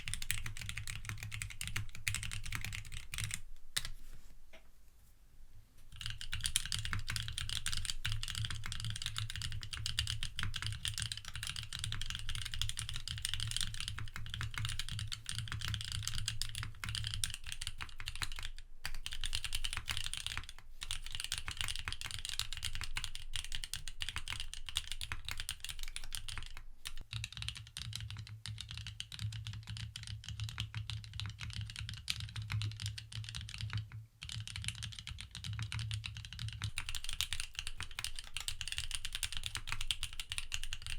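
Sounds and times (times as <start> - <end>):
mechanical keyboard typing: 0.0 - 4.0, 5.9 - 40.9.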